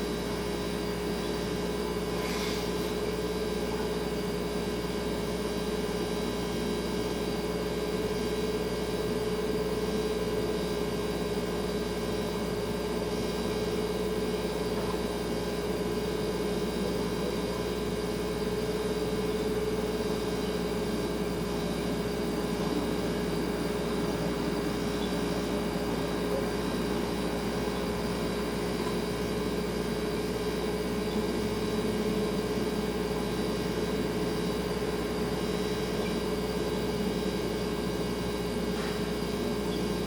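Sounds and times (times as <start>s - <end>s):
refrigerator humming: 0.0s - 40.0s.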